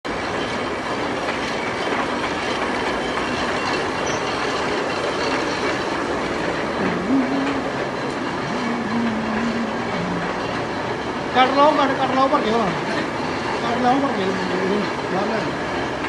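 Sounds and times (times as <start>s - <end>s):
workshop machinery rattling: 0.1s - 16.0s.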